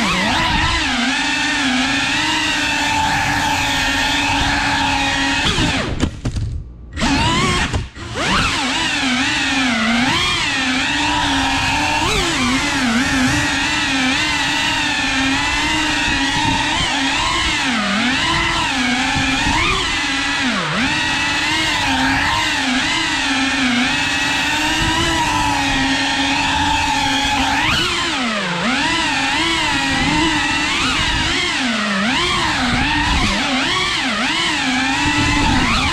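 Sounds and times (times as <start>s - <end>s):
quadcopter motors whining: 0.0s - 6.2s, 6.9s - 35.9s.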